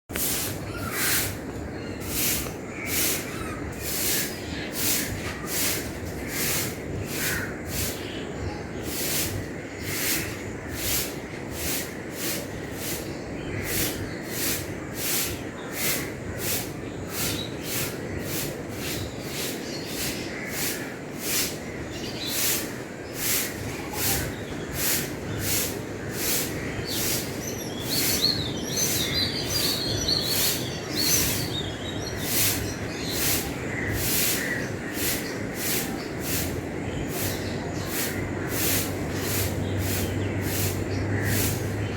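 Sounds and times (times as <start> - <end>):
birds chirping: 0.1 - 41.9
broom sweeping ground: 0.1 - 41.9.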